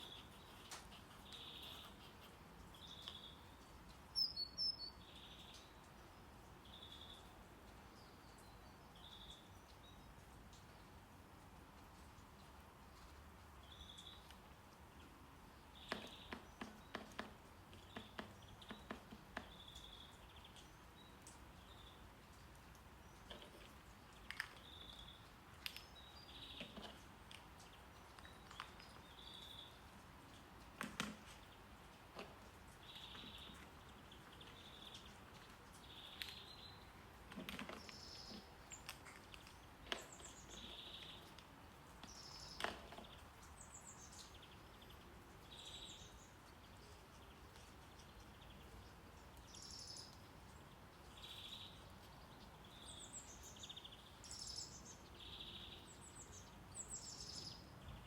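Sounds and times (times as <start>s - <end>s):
birds chirping faintly: 0.0s - 58.0s.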